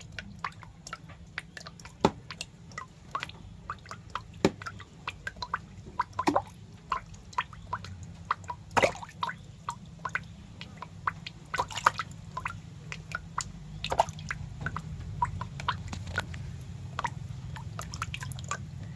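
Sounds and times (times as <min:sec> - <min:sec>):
low steady hum: 0:00.0 - 0:18.9
wet clicks and plinks: 0:00.0 - 0:18.9.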